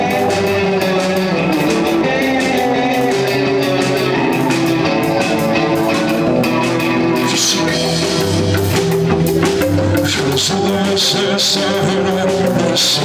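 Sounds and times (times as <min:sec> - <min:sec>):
rock band guitar: 0:00.0 - 0:13.0
steady drum beat: 0:00.0 - 0:13.0.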